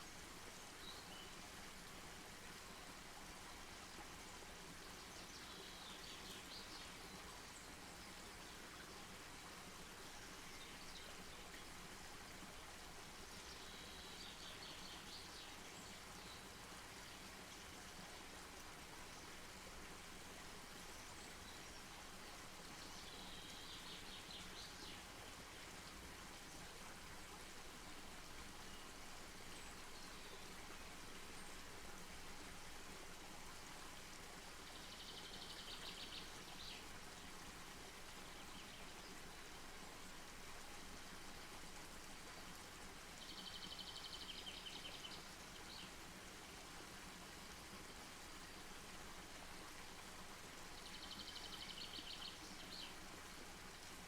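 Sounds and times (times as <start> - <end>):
faint outdoor ambience hiss: 0.0 - 54.0.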